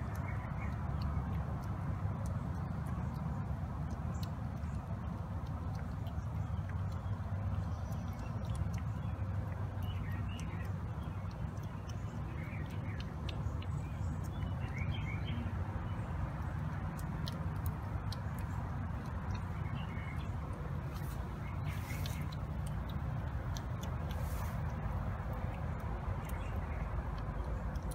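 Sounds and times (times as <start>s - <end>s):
cats eating from bowls: 0.0s - 27.9s
steady low hum: 0.0s - 27.9s.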